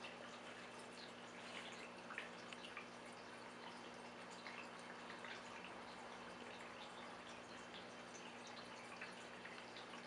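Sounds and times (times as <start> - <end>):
low pump hum: 0.0 - 10.0
water trickling and dripping: 0.0 - 10.0.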